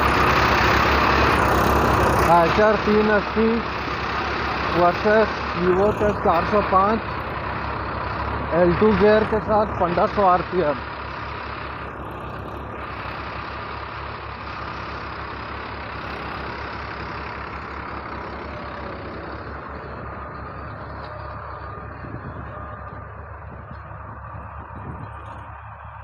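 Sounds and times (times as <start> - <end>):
tractor diesel engines running: 0.0 - 26.0.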